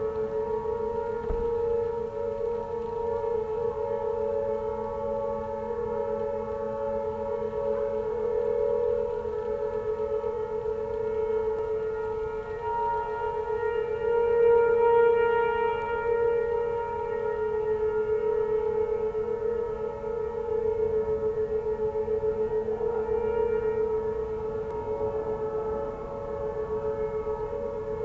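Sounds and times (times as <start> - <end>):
tornado warning sirens: 0.0 - 28.0.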